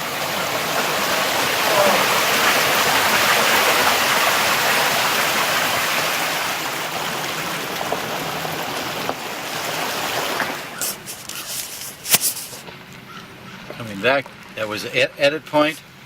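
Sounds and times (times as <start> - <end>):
car splashing through floodwater: 0.0 - 16.0.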